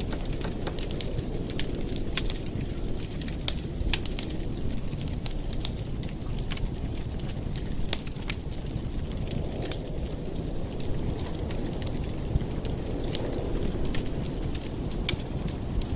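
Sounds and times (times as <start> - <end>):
campfire crackling and popping: 0.0 - 15.9.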